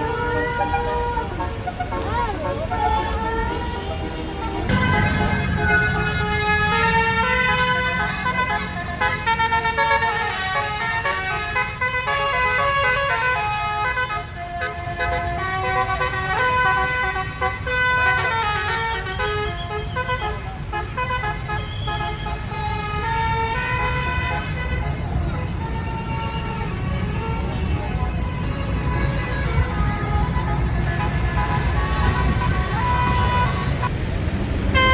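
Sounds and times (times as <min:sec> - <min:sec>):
musical air horn melody: 0:00.0 - 0:33.9
bus engine running: 0:00.0 - 0:34.9.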